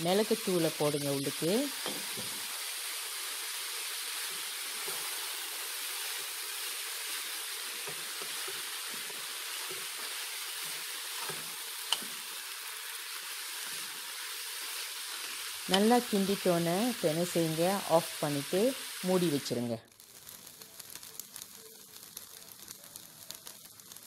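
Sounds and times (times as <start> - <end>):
rice and spinach sizzling: 0.0 - 24.0.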